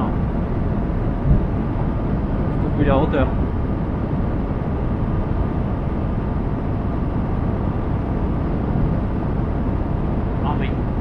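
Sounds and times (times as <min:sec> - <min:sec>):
wind noise over microphone: 0:00.0 - 0:11.0.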